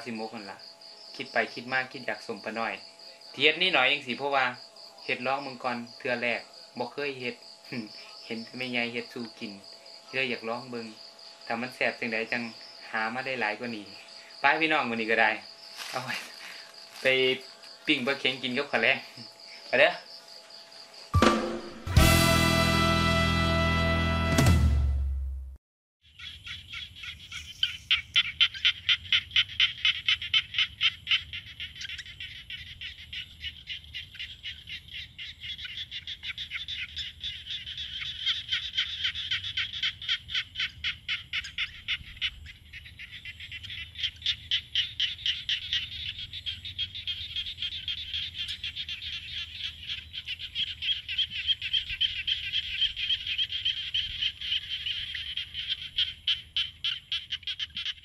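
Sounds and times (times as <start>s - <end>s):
frogs calling: 0.0s - 21.6s, 26.0s - 58.0s.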